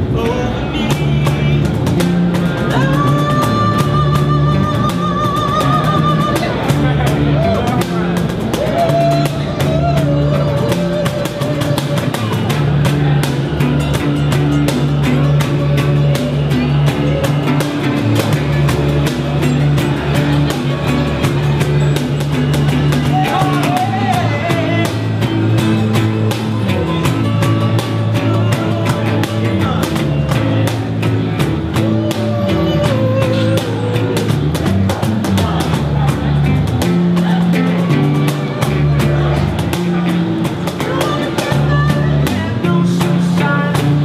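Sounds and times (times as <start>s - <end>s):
acoustic guitars strummed: 0.0s - 44.0s
bass line: 0.0s - 44.0s
cajon beat: 0.0s - 44.0s.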